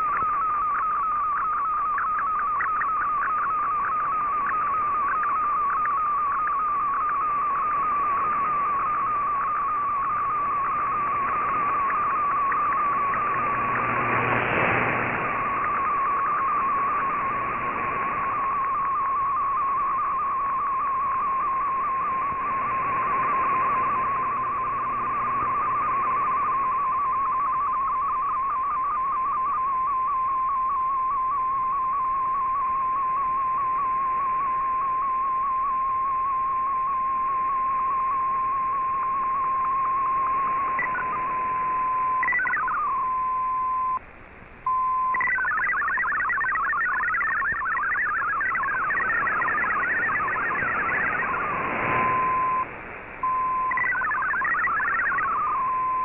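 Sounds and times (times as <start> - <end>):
radio hiss: 0.0 - 56.0
rapid chatter of data tones: 0.0 - 56.0
warbling radio data tone: 0.0 - 56.0.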